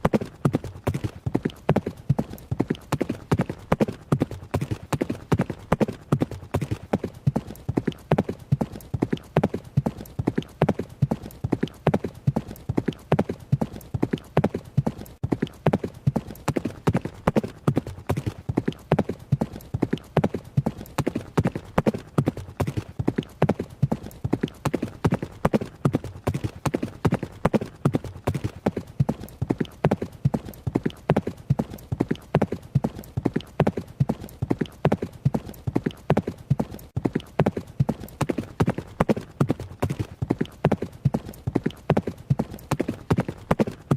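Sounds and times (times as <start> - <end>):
horse hooves running: 0.0 - 43.9.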